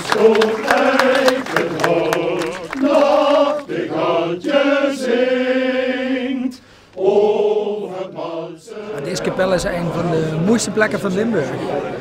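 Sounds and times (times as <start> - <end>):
men's choir singing a cappella: 0.0 - 12.0.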